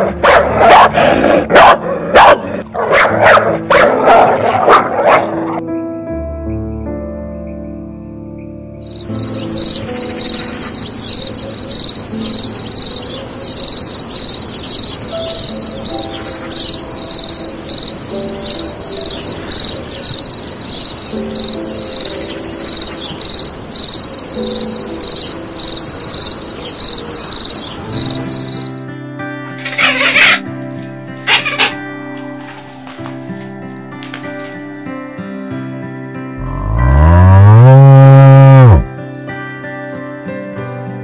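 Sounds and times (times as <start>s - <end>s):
soft background music: 0.0s - 41.0s
insect chirping: 5.6s - 40.0s.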